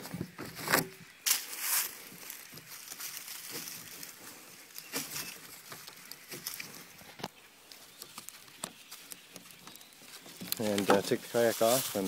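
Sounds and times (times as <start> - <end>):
straps and buckle scraping and clicking: 0.0 - 11.7
straps rustling: 0.0 - 12.0.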